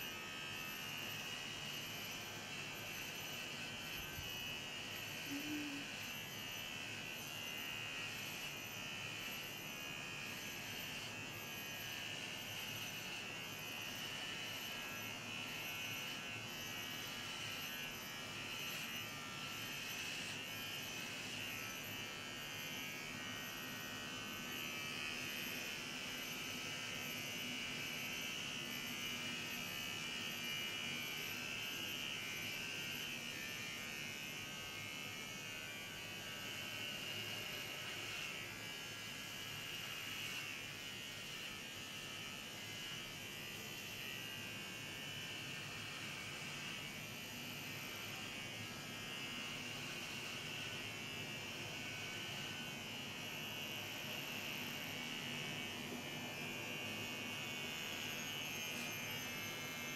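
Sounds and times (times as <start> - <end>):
electric shaver buzzing: 0.0 - 59.9.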